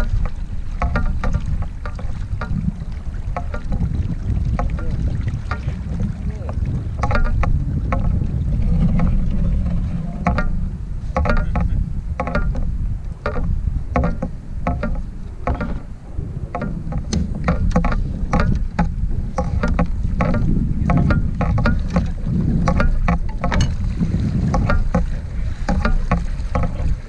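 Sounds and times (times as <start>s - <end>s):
water moving along kayak hull: 0.0s - 27.0s
wind rumble on microphone: 0.0s - 27.0s.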